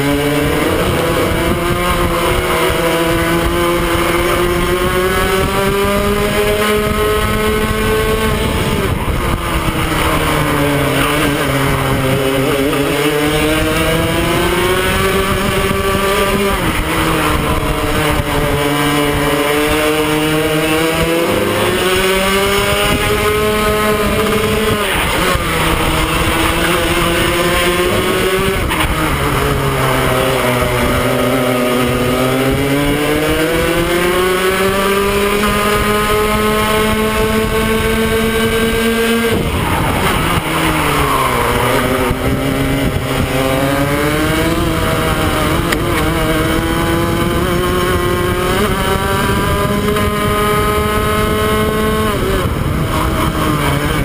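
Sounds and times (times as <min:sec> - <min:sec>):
kart engine racing: 0:00.0 - 0:54.0
wind noise: 0:00.0 - 0:54.0.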